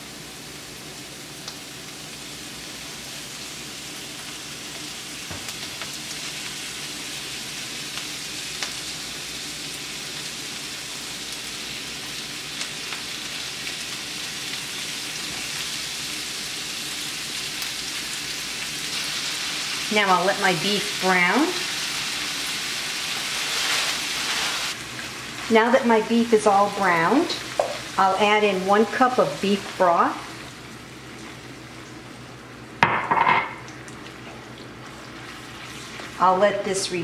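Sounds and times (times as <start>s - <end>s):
meat sizzling in a frying pan: 0.0s - 36.9s.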